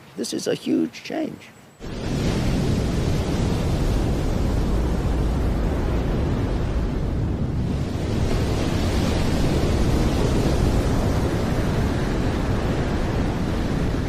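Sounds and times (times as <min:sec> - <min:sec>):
sea washing against column: 0:01.8 - 0:14.0
wind buffeting microphone: 0:01.8 - 0:14.0.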